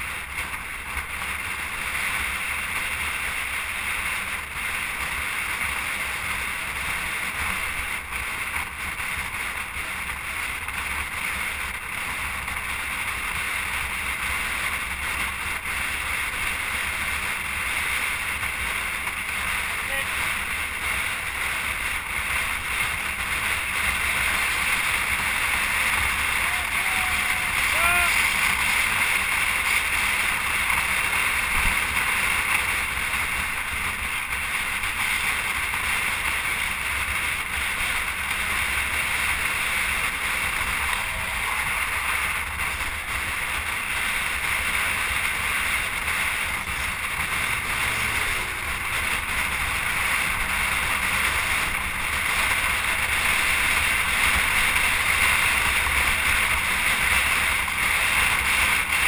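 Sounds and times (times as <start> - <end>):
low rumble and hiss: 6.2 - 59.0.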